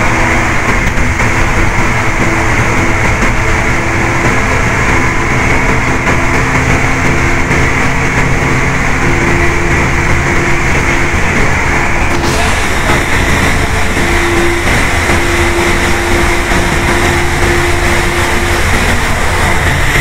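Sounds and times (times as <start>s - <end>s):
bus engine drone: 0.0s - 20.0s
road and wind noise: 0.0s - 20.0s.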